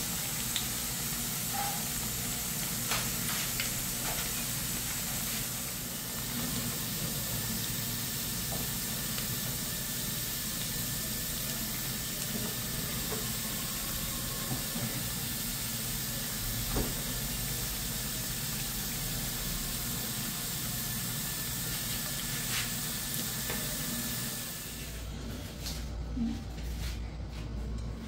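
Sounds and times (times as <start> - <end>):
plantain frying in oil: 0.0 - 25.1.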